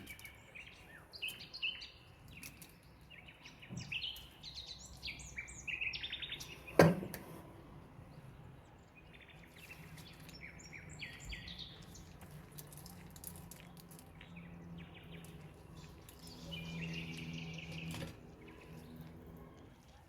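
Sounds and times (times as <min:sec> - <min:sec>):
birds chirping: 0:00.0 - 0:07.4, 0:08.0 - 0:20.0.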